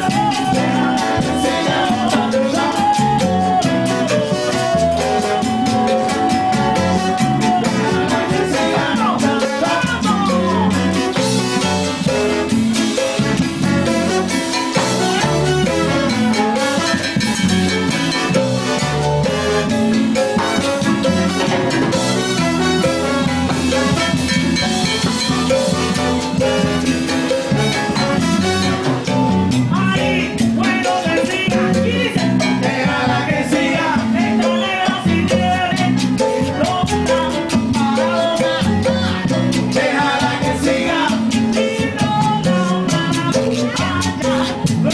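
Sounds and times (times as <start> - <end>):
bass line: 0.0 - 44.9
percussion strikes: 0.0 - 44.9
salsa band music: 0.0 - 44.9.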